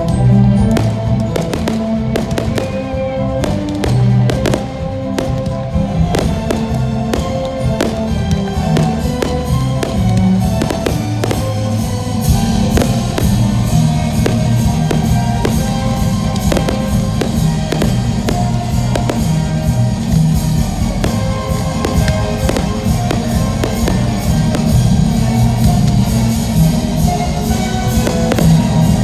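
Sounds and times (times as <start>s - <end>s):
fireworks popping: 0.0s - 29.0s
loud music with drum beat: 0.8s - 2.8s, 3.4s - 29.0s.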